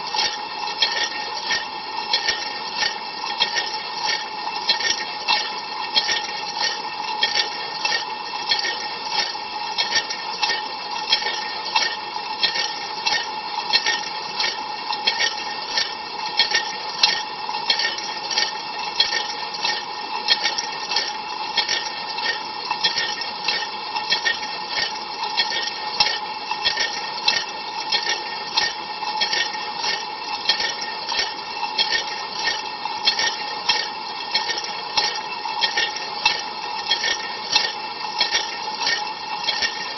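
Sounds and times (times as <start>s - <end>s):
dishwasher water jets pulsing: 0.0s - 39.9s.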